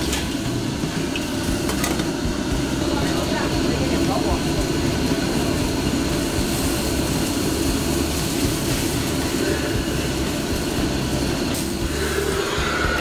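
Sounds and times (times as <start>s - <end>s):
gas burner roaring: 0.0s - 13.0s
stock boiling: 0.0s - 13.0s.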